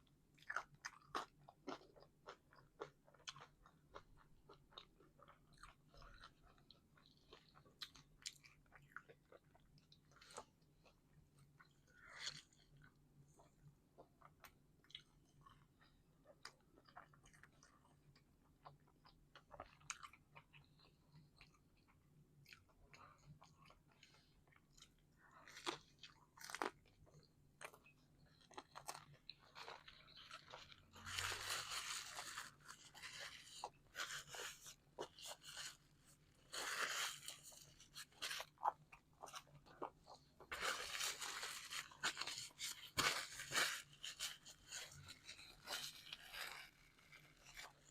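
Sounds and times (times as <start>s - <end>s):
chewing crunches and smacks: 0.3s - 47.9s.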